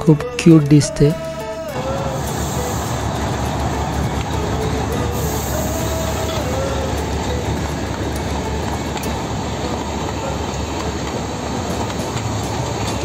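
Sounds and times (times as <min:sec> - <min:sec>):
train wheels rumbling on rails: 0:01.3 - 0:13.0
wheel clicks on rails: 0:01.5 - 0:13.0.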